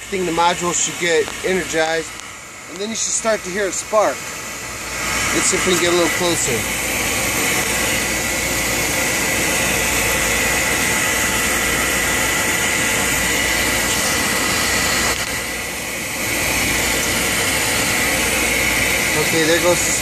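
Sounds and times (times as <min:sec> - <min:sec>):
furnace fan whining: 0:00.0 - 0:20.0.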